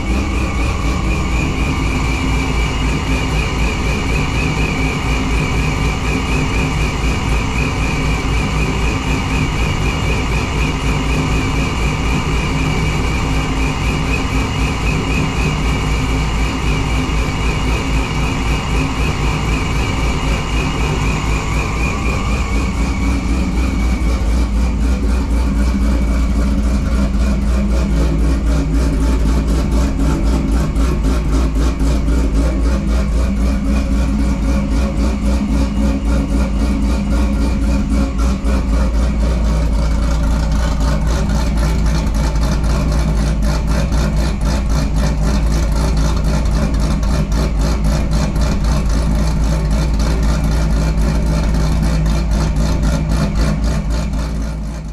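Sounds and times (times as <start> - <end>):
high wavering whine: 0.0 - 54.7
car engine idling: 0.0 - 54.9.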